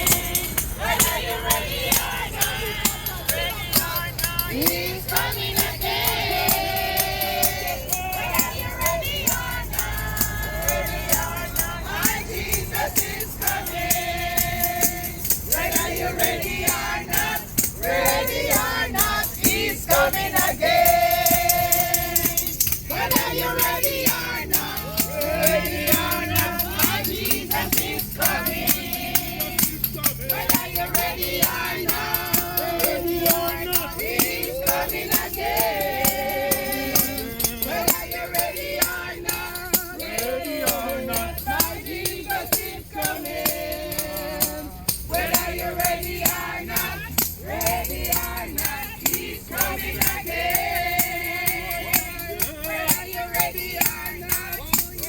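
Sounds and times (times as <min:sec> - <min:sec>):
shaker beat: 0:00.0 - 0:55.0
voices singing: 0:00.0 - 0:55.0.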